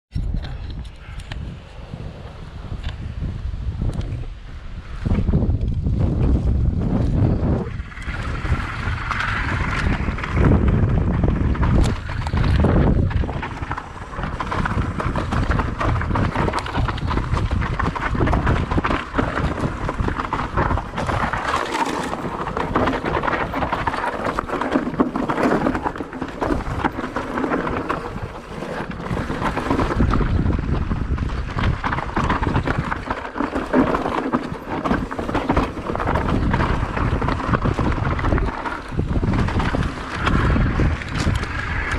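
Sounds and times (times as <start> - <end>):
bike rattling: 0.1 - 41.9
wind buffeting microphone: 0.1 - 41.9
tyres crunching over dirt and rock: 5.0 - 41.9.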